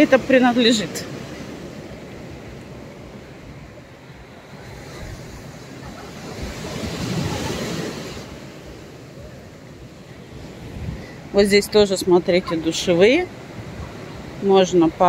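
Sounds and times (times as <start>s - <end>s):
sea waves washing in: 0.0s - 15.0s
wind buffeting microphone: 0.8s - 14.5s.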